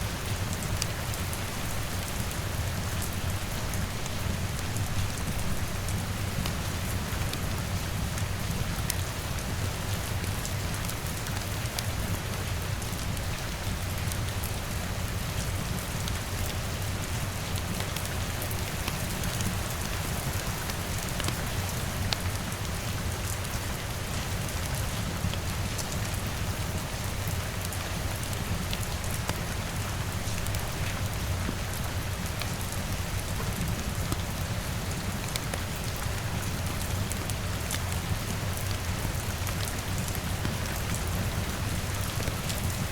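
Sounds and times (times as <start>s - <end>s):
rain on a window: 0.0s - 42.9s.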